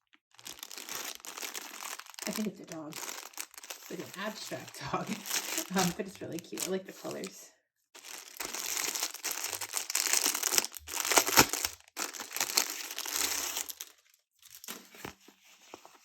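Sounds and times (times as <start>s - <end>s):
packaging crinkling and rustling: 0.0s - 7.4s, 8.0s - 16.0s.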